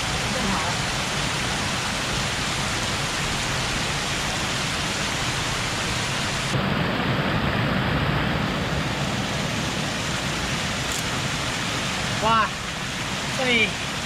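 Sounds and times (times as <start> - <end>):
water rushing over dam: 0.0 - 14.0.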